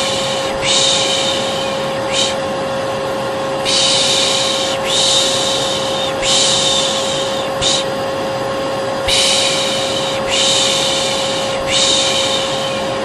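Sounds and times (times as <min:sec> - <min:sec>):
person shushing: 0:00.0 - 0:02.4, 0:03.7 - 0:07.9, 0:09.1 - 0:13.0
hair dryer running: 0:00.0 - 0:13.0.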